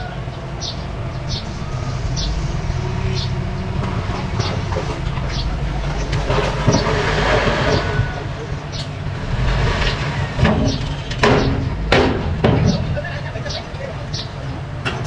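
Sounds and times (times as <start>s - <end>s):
rushing noise: 0.0s - 14.8s
diesel engines running: 0.0s - 15.0s.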